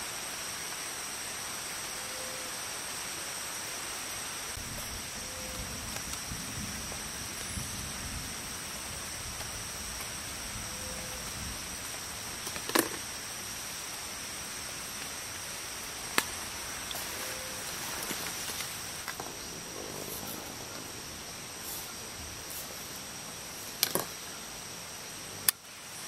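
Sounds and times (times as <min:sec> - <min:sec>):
rainforest hiss: 0:00.0 - 0:26.0
insects high-pitched tones: 0:01.8 - 0:26.0.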